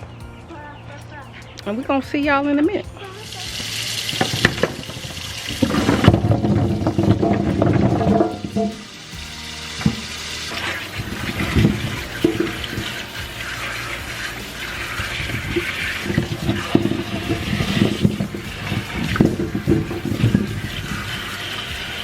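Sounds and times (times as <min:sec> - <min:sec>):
tap water running into sink: 0:03.2 - 0:22.0.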